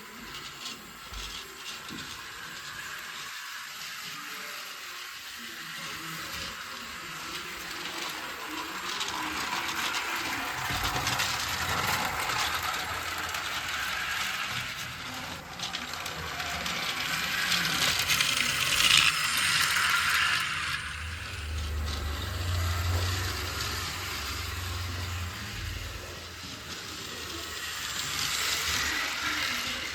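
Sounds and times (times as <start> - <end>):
toy train clattering on track: 0.0 - 29.9.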